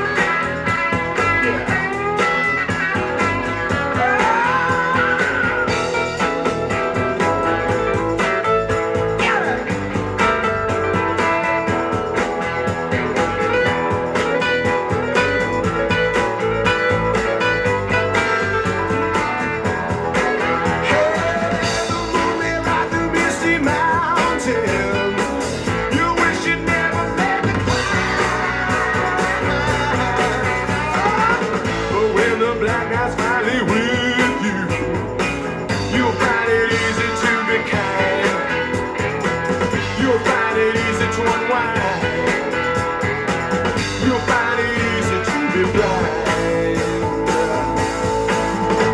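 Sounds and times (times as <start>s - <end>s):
blues-rock music with guitar: 0.0s - 48.9s.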